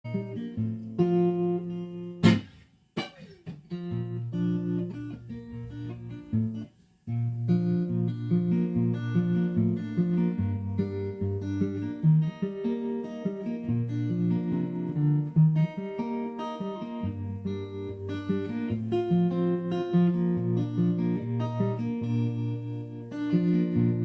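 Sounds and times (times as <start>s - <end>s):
acoustic guitar picking: 0.0s - 24.0s.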